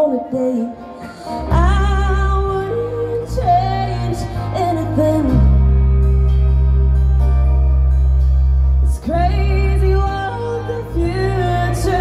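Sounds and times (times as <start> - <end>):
live country band playing: 0.0 - 12.0.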